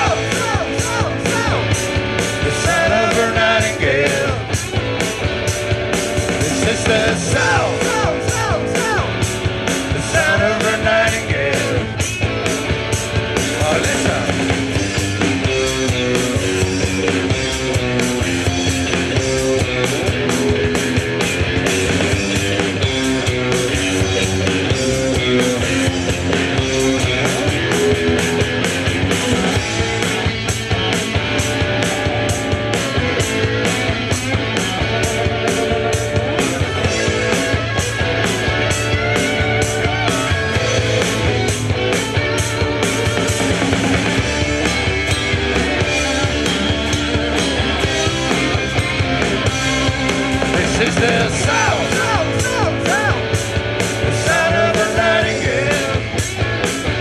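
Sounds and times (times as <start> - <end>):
drum kit: 0.0 - 57.0
guitar: 0.0 - 57.0
rock band playing: 0.0 - 57.0.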